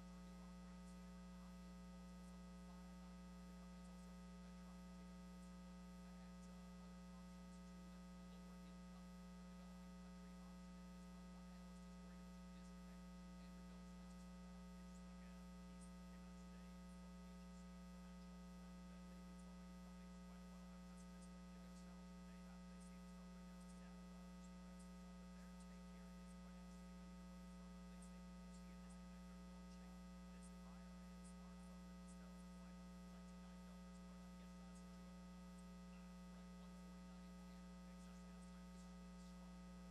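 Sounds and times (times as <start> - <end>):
electrical hum: 0.0 - 39.9
faint crackle: 0.0 - 39.9.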